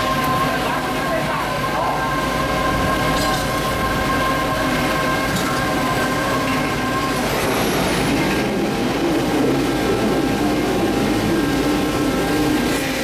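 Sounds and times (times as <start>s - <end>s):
electric locomotive hum and whine: 0.0s - 13.0s.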